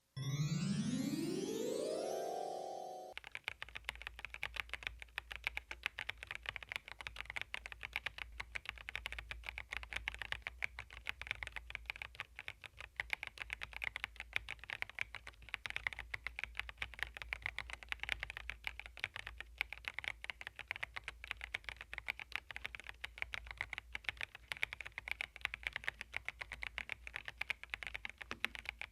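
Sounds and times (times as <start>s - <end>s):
fast typing on mechanical keyboard: 3.2s - 28.9s.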